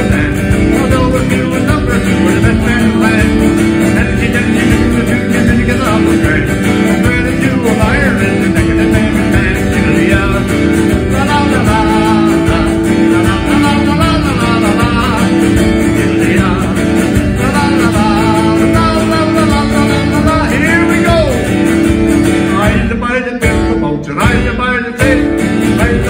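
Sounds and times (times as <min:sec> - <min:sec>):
man singing: 0:00.0 - 0:26.0
strummed acoustic guitar: 0:00.0 - 0:26.0.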